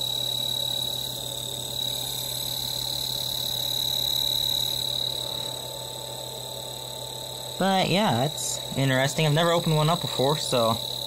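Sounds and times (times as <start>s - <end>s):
compressor humming and whining: 0.0s - 11.0s.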